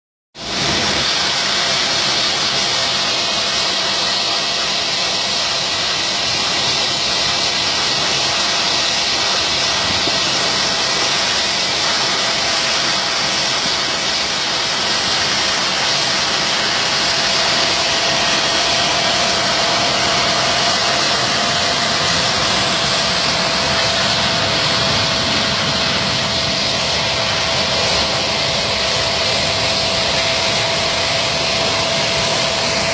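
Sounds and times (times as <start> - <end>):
jet engines whining hiss: 0.4 - 32.9.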